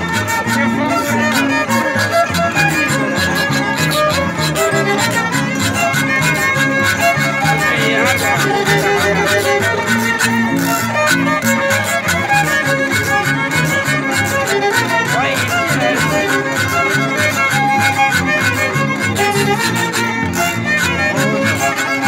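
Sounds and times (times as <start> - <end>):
fiddle playing melody: 0.0 - 22.0
harp plucking bass notes: 0.0 - 22.0.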